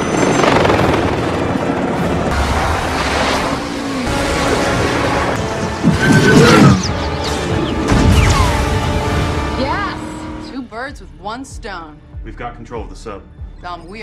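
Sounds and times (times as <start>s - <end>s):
dramatic film music: 0.0s - 14.0s.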